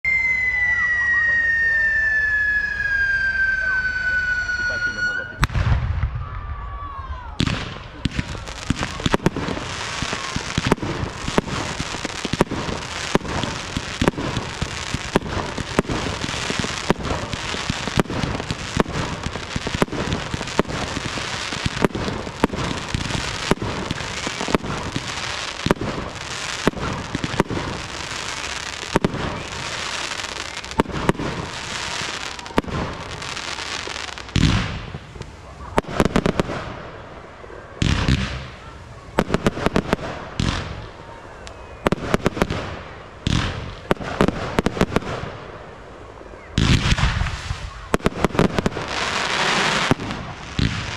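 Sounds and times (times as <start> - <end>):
fireworks bangs: 0.0 - 50.9
fireworks hiss: 7.4 - 50.9.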